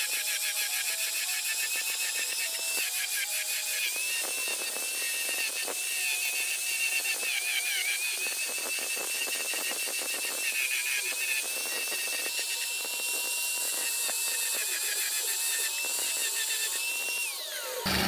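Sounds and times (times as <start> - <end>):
small power tool whine: 0.0 - 18.0.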